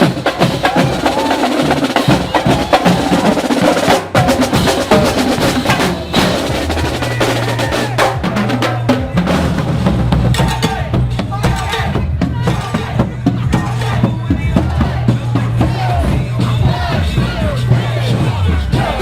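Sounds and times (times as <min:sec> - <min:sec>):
marching band playing: 0:00.0 - 0:19.0
snare and bass drums: 0:00.0 - 0:19.0.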